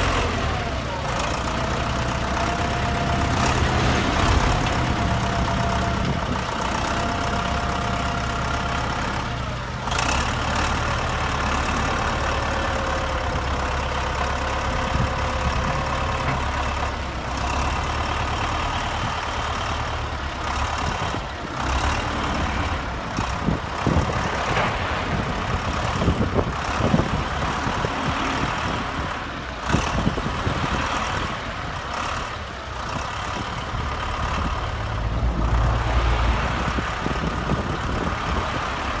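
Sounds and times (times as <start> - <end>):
cars passing on slushy road: 0.0 - 39.0
engine running: 0.0 - 39.0
vehicle low rumble: 0.0 - 39.0.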